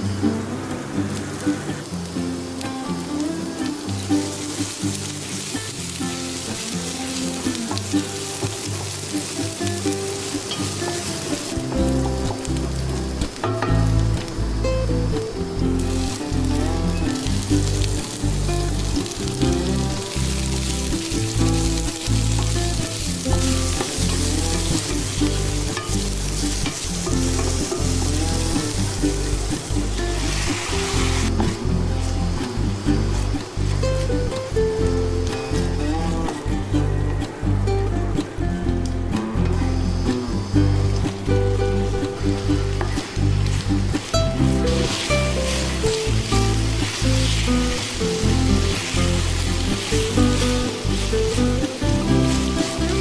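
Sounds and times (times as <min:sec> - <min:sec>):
food sizzling in oil: 0:00.0 - 0:37.6, 0:39.7 - 0:53.0
background music held notes: 0:00.0 - 0:53.0.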